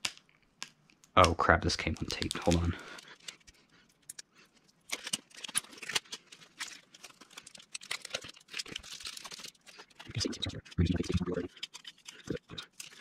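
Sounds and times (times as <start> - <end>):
plastic straws clicking and crinkling: 0.0 - 13.0.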